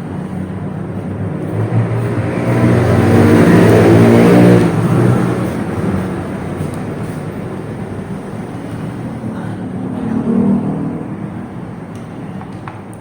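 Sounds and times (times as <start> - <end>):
vehicle engine passing by: 0.0 - 12.4.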